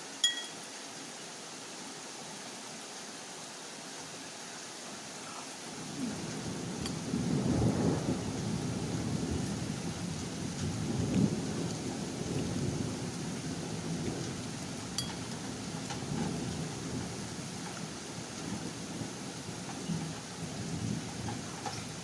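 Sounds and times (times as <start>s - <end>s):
rain drumming: 0.0s - 22.0s.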